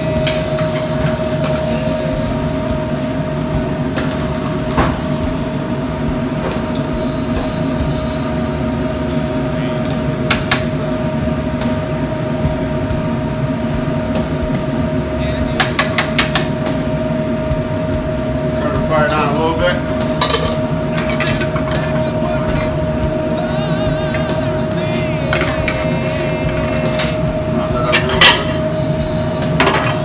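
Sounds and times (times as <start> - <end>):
constant hum: 0.0 - 30.0
kitchen fans and burners droning: 0.0 - 30.0.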